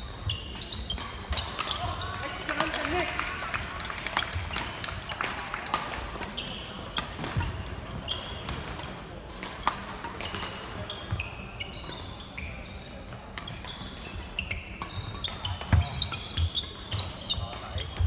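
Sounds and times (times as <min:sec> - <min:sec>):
court shoes squeaking: 0:00.0 - 0:03.1, 0:06.2 - 0:18.0.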